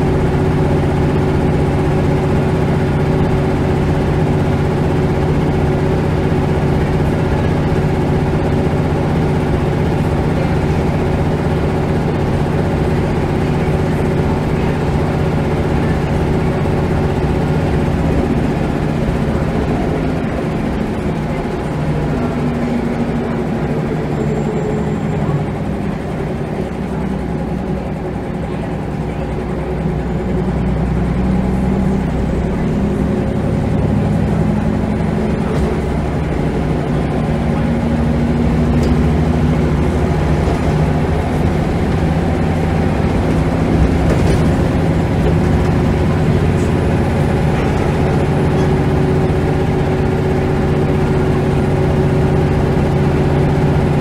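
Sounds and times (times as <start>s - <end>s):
bus engine running loudly: 0.0s - 54.0s.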